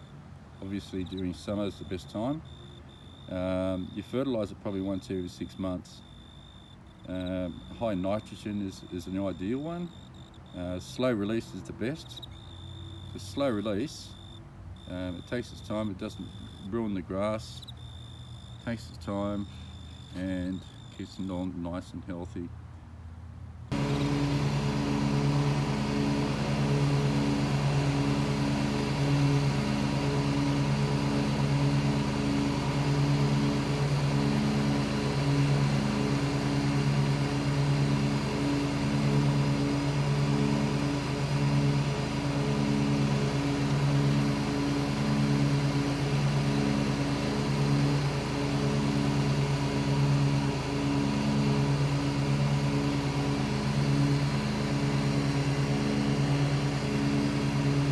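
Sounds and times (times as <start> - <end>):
ride-on lawn mower engine: 0.0 - 57.9.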